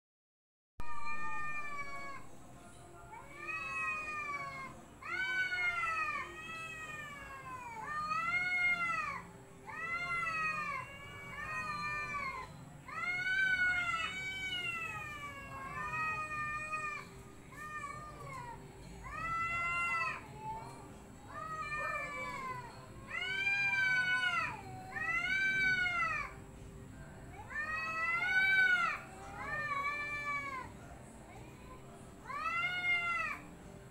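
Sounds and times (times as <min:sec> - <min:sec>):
cats yowling: 0:00.9 - 0:02.3, 0:03.1 - 0:26.4, 0:27.3 - 0:33.5.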